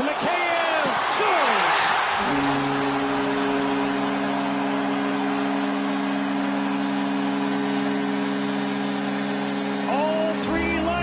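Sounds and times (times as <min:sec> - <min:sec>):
crowd cheering: 0:00.0 - 0:11.0
arena goal horn: 0:02.1 - 0:11.0.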